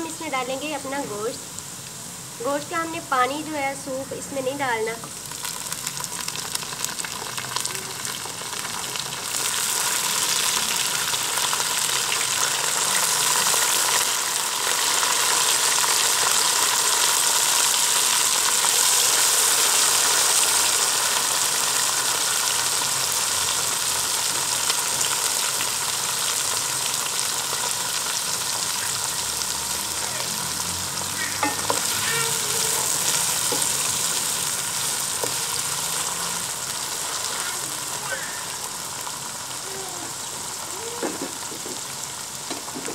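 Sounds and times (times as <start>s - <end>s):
food sizzling in hot oil: 0.0s - 42.9s.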